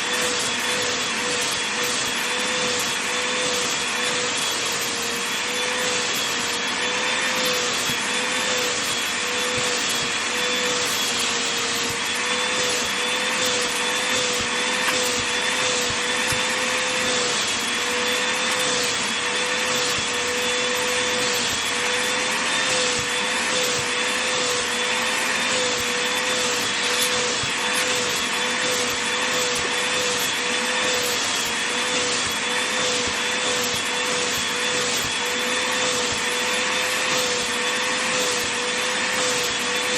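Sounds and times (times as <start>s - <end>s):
vacuum cleaner humming: 0.0s - 39.9s.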